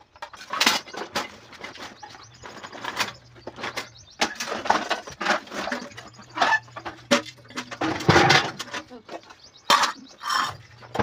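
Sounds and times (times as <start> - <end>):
metal pots clattering and scraping: 0.0 - 11.0.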